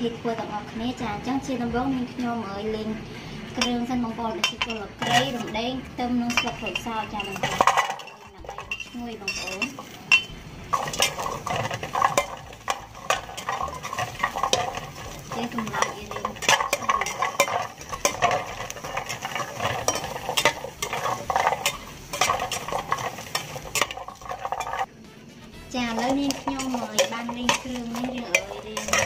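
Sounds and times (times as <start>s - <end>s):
metal spatula scraping metal pot: 4.4s - 24.9s, 25.7s - 29.0s.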